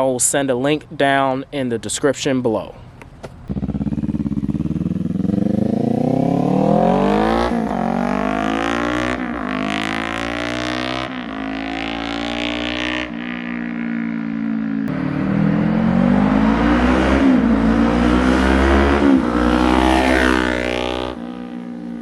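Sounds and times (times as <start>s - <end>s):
motorcycle engine accelerating: 3.3s - 22.0s.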